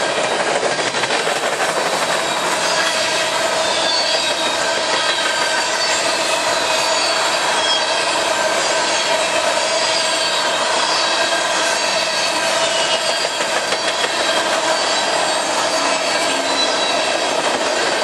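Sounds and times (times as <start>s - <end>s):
train wheels rumbling on rails: 0.0s - 18.0s
wheels squealing: 1.2s - 18.0s.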